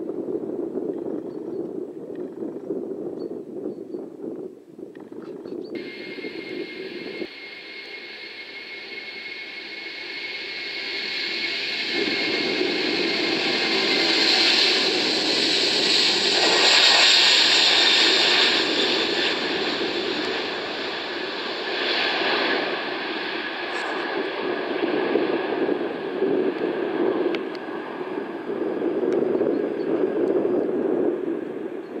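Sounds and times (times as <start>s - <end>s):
jet engines roaring: 5.8s - 32.0s.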